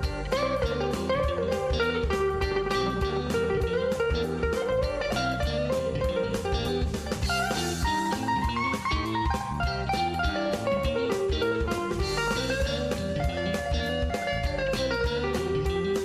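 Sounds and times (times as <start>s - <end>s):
bluesy guitar music: 0.0s - 16.0s.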